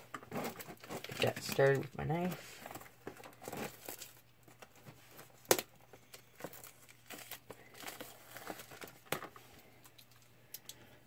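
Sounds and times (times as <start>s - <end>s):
plastic wrap tearing and crinkling: 0.0s - 10.2s.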